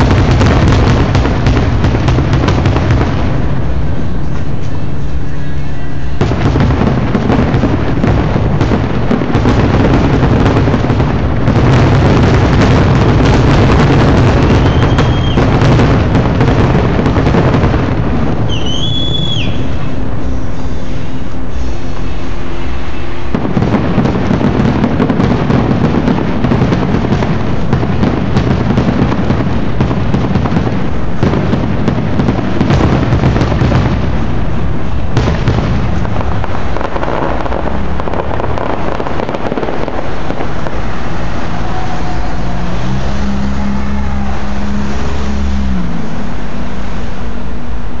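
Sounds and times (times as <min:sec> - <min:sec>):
low steady drone: 0:00.0 - 0:18.5, 0:19.2 - 0:48.0
fireworks crackling and banging: 0:00.0 - 0:48.0.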